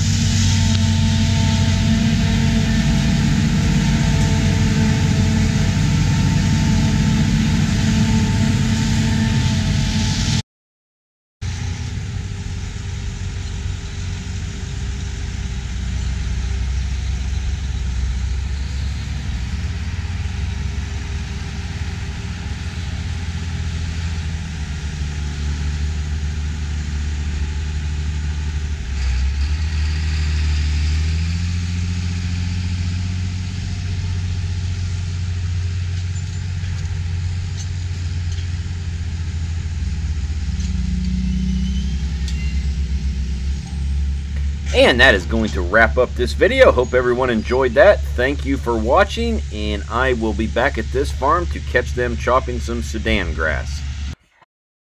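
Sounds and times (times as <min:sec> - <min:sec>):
diesel tractor engines running: 0:00.0 - 0:10.4, 0:11.4 - 0:54.2.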